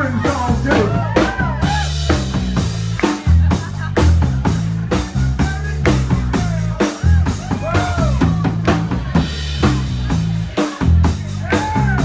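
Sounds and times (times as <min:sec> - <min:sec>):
bass line: 0:00.0 - 0:12.0
drum kit beat: 0:00.0 - 0:12.0.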